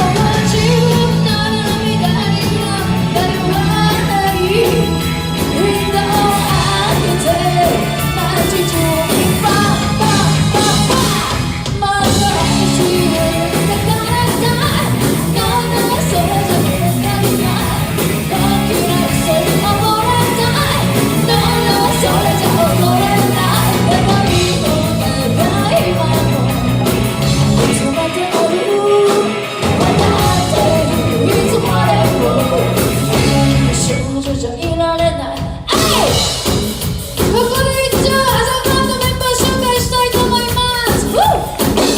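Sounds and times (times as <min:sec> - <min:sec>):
bass line: 0:00.0 - 0:41.9
lead singer singing: 0:00.0 - 0:41.9
live rock band: 0:00.0 - 0:41.9.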